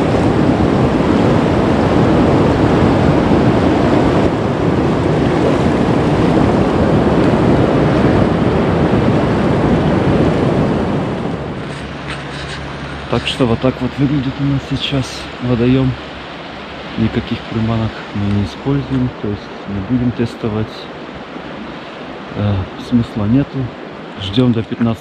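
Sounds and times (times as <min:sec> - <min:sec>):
floodwater rushing and churning: 0:00.0 - 0:25.0.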